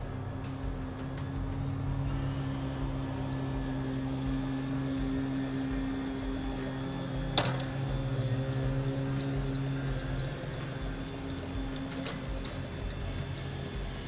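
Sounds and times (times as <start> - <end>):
electric lawn mower running: 0.0 - 14.0.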